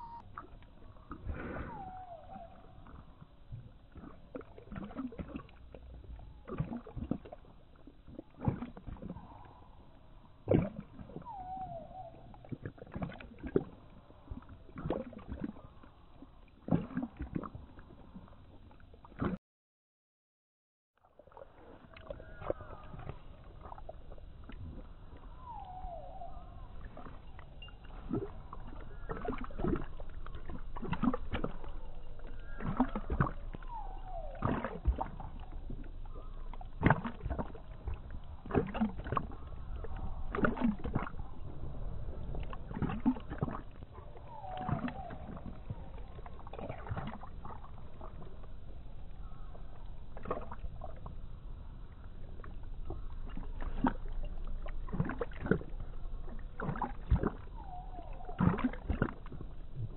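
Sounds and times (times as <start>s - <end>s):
dog lapping water: 0.0s - 19.4s, 21.0s - 48.6s, 49.2s - 51.2s, 51.8s - 59.9s.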